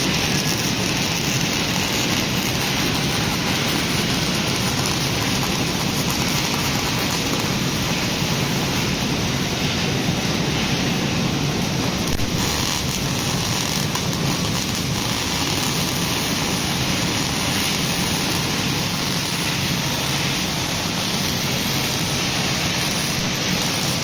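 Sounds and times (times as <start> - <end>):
welding arc crackling: 0.0 - 24.0.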